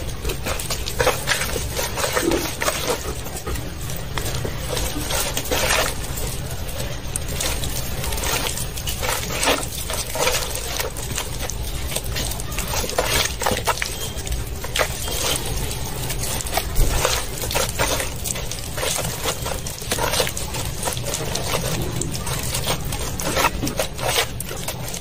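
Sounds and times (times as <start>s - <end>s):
hand squelching wet paste: 0.0s - 25.0s.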